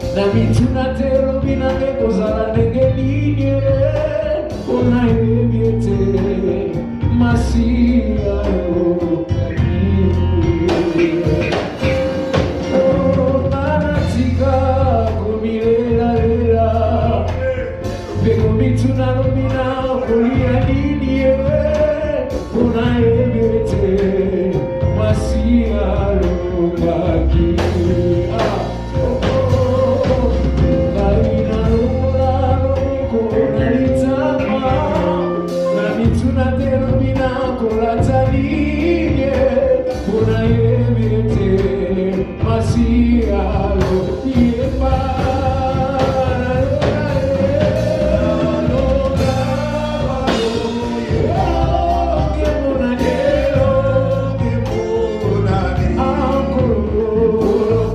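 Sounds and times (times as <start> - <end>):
band playing worship music: 0.0 - 57.9
people singing: 0.0 - 57.9.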